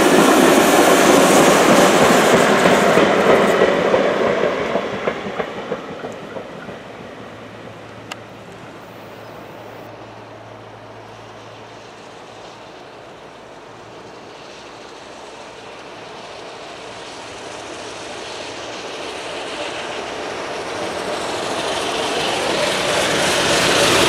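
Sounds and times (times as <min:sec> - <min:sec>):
steam locomotives working: 0:00.0 - 0:24.0.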